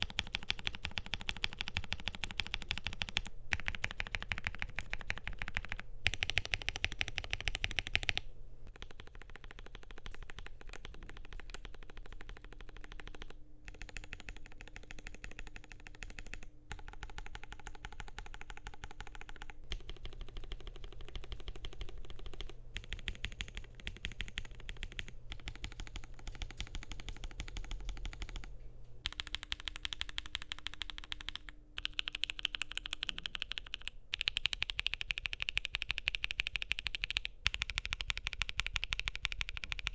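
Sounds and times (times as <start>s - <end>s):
muted mechanical keyboard typing: 0.0s - 39.9s.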